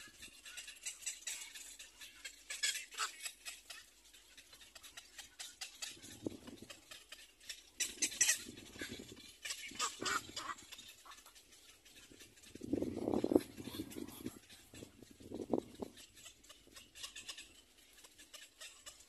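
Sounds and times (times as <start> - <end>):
bird chicks raspy calls: 0.0 - 19.0.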